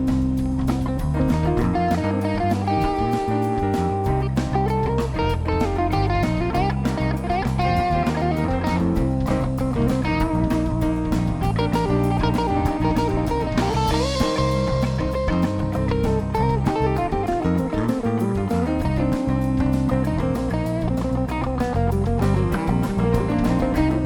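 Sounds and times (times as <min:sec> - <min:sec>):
electric guitar: 0:00.0 - 0:24.0
live rock band playing: 0:00.0 - 0:24.0.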